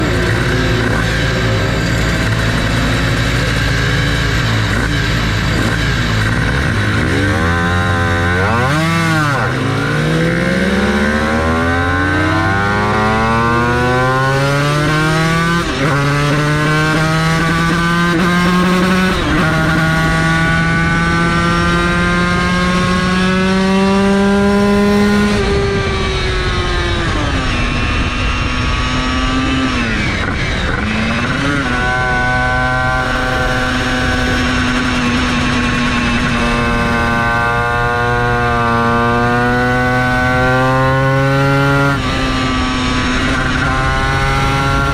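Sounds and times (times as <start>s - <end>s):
gear changes: 0.0s - 44.9s
two-stroke race engine revving: 0.0s - 44.9s.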